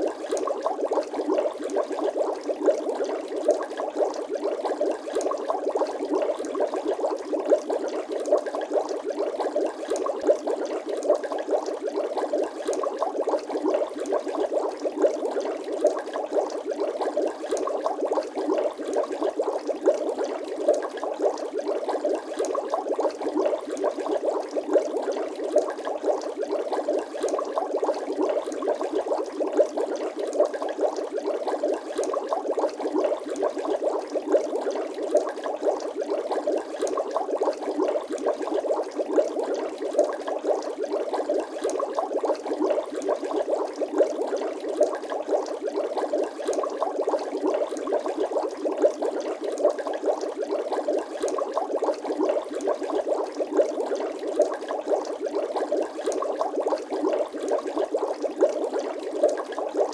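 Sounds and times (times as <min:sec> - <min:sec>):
water bubbling: 0:00.0 - 0:59.9.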